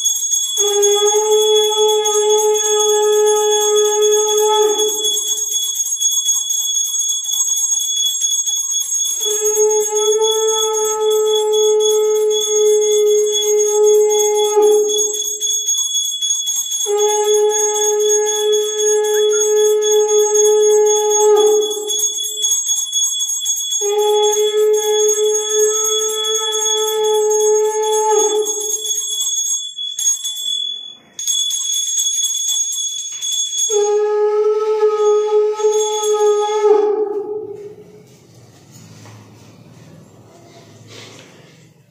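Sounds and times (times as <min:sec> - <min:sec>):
hand bell ringing: 0:00.0 - 0:34.2, 0:35.0 - 0:36.5.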